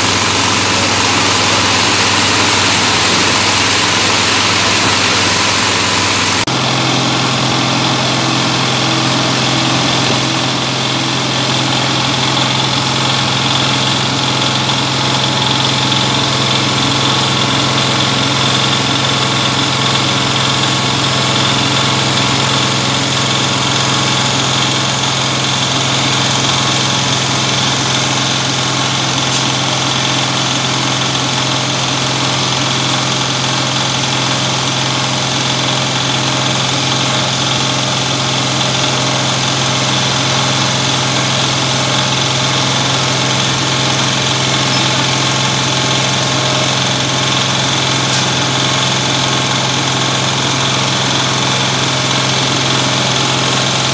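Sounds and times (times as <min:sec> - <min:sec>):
diesel engine running steadily: 0:00.0 - 0:53.9.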